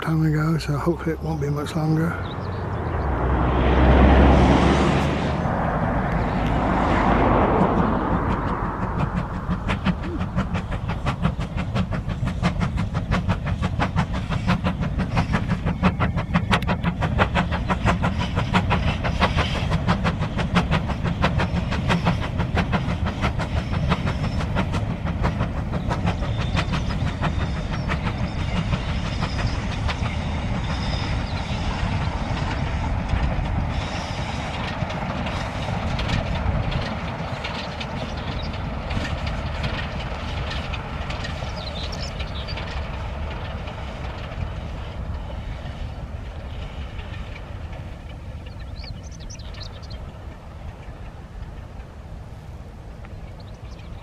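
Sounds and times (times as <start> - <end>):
steam locomotive exhaust beats: 0.0 - 54.0
train wheels clickety-clack: 3.7 - 54.0.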